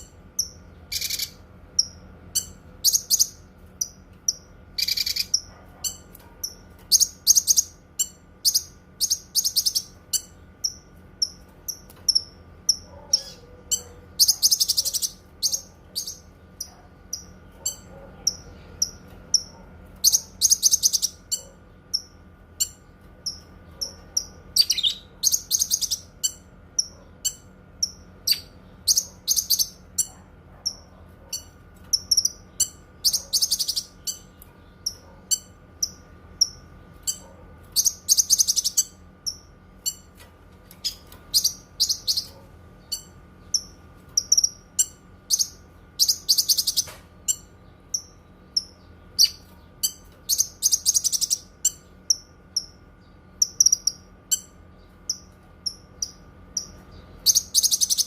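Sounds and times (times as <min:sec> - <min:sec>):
faint steady hum: 0:00.0 - 0:58.0
songbird chirping and trilling: 0:00.0 - 0:58.0.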